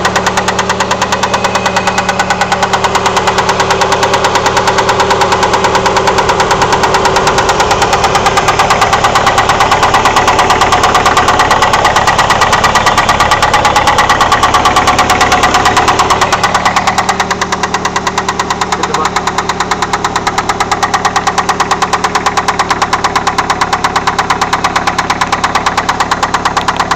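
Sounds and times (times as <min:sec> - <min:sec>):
engine knocking: 0:00.0 - 0:26.9.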